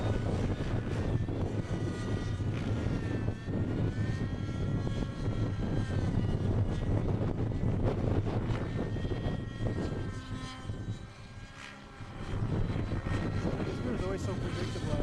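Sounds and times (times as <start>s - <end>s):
model helicopter engine whine: 0.0s - 15.0s.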